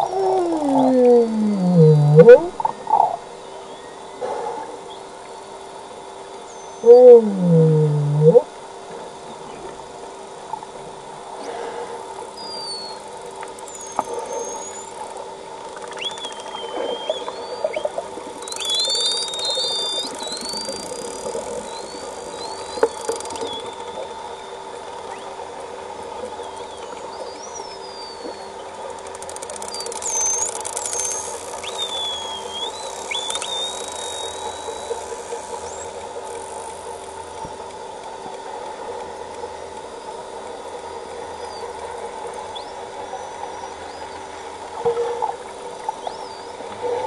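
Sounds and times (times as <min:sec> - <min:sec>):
whale clicks: 0:00.0 - 0:03.3, 0:06.8 - 0:08.5, 0:11.3 - 0:47.0
whales whistling underwater: 0:00.0 - 0:05.5, 0:06.3 - 0:08.6, 0:11.4 - 0:36.0, 0:39.5 - 0:47.0
steady low hum: 0:00.0 - 0:47.0.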